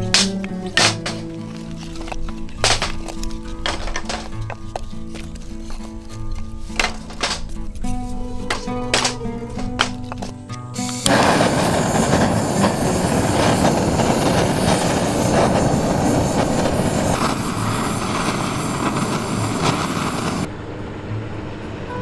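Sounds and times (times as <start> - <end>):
fire crackling: 0.0 - 20.5.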